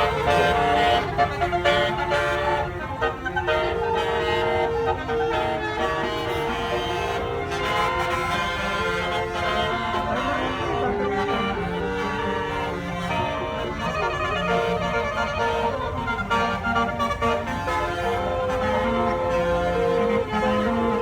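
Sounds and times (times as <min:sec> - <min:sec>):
bus multi-tone horn playing tune: 0:00.0 - 0:21.0
low rumble of traffic: 0:00.0 - 0:21.0.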